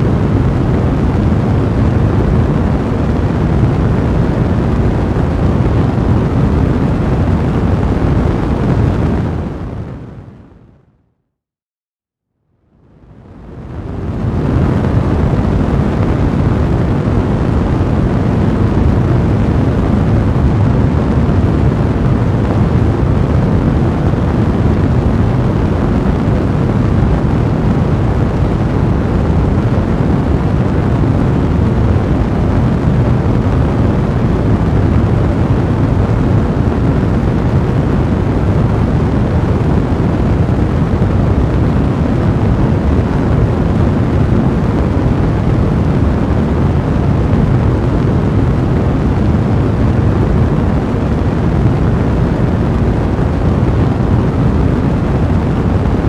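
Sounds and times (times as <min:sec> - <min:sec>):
large fire blazing: 0:00.0 - 0:10.5, 0:12.9 - 0:56.0.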